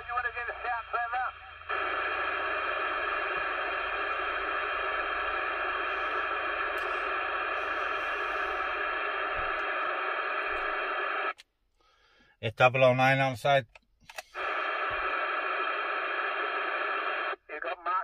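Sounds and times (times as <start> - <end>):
radio receiver static hiss: 0.0 - 11.4, 14.1 - 18.0.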